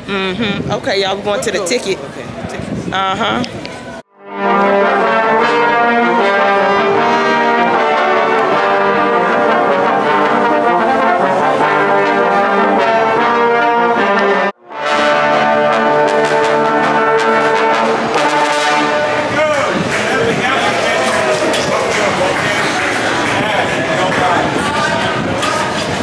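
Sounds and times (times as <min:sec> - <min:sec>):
trombone ensemble playing held notes: 0:04.2 - 0:26.0.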